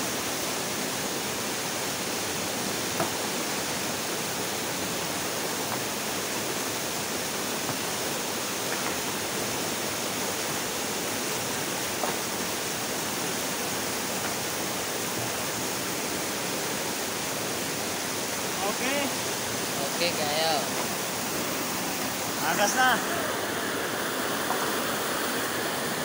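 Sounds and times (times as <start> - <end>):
stream water flowing over rocks: 0.0 - 26.0.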